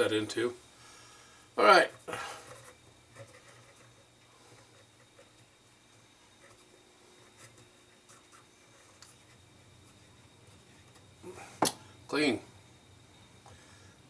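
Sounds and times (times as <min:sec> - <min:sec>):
faint scratching of small parts: 0:00.0 - 0:12.4.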